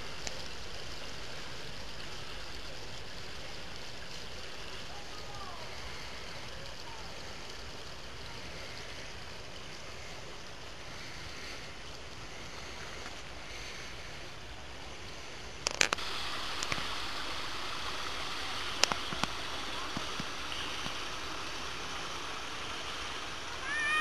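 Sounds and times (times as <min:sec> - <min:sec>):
running water hiss: 0:00.0 - 0:24.0.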